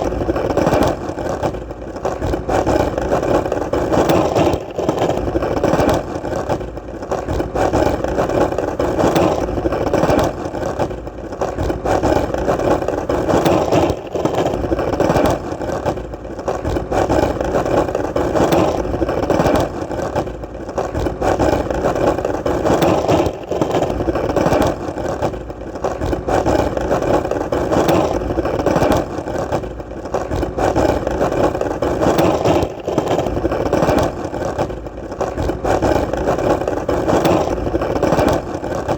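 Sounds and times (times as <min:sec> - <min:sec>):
skateboard wheels rolling: 0:00.0 - 0:38.9.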